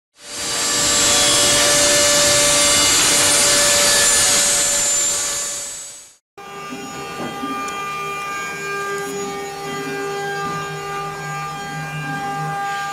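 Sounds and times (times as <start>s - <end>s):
machine cutting noise: 0.2s - 12.9s.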